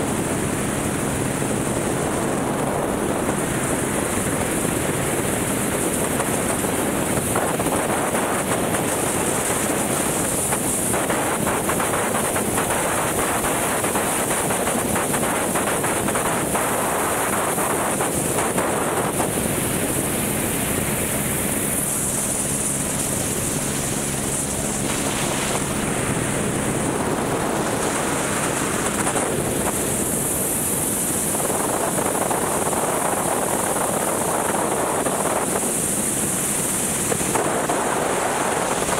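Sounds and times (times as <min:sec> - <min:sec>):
helicopter rotor and engine: 0:00.0 - 0:38.9
wind buffeting microphone: 0:00.0 - 0:38.9.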